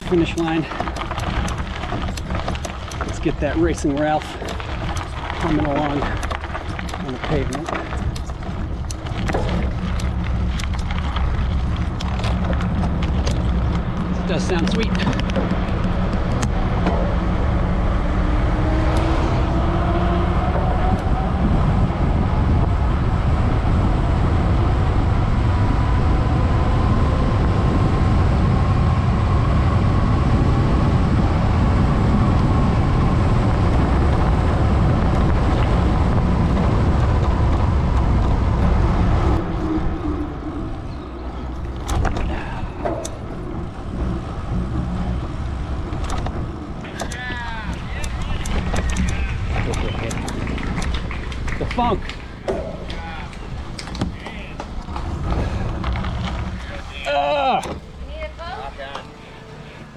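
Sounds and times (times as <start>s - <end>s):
wind rush on microphone: 0.0s - 58.4s
bicycle tires humming on pavement: 0.0s - 59.9s.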